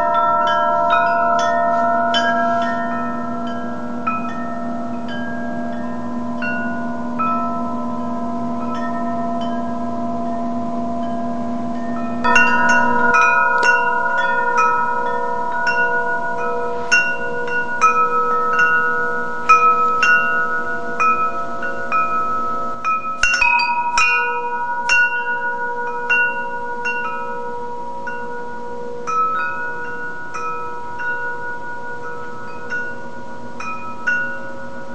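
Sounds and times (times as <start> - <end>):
metal wind chime ringing: 0.0 - 34.9.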